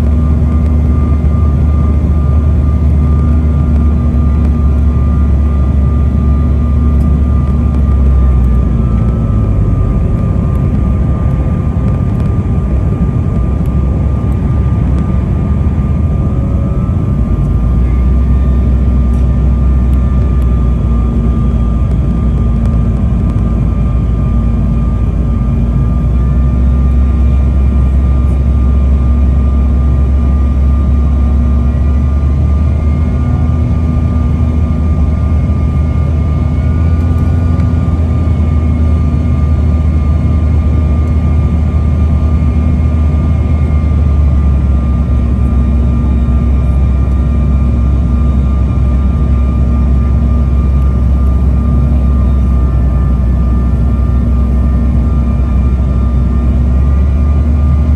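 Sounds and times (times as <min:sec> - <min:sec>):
jet engine drone in cabin: 0:00.0 - 0:57.9.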